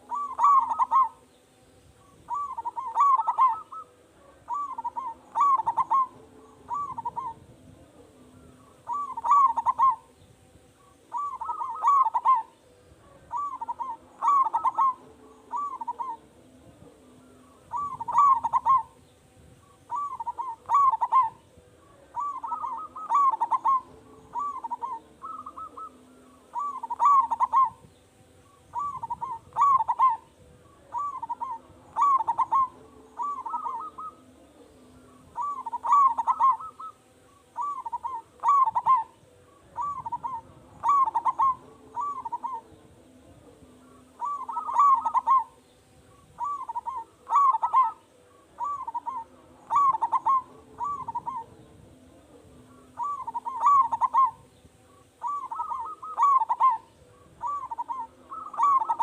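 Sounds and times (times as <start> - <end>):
dove cooing: 0.0 - 1.3, 2.0 - 59.0.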